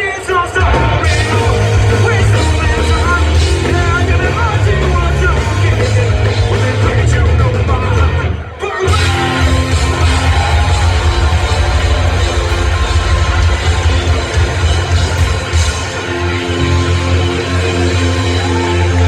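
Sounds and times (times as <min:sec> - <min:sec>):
live punk band playing: 0:00.0 - 0:19.0.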